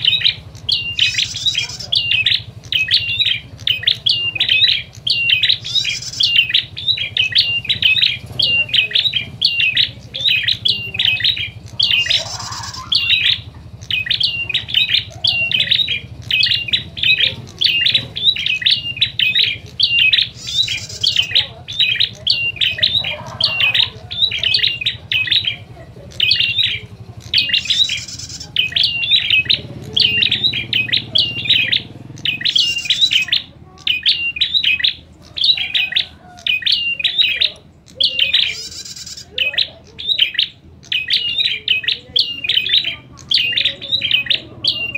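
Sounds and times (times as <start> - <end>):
bird sharp chirps: 0.0 - 44.9
buzzy bird trill: 0.0 - 44.9.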